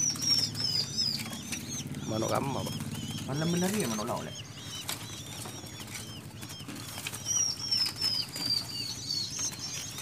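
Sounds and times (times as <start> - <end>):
high begging calls: 0.0 - 10.0
nestlings chirping: 0.0 - 10.0.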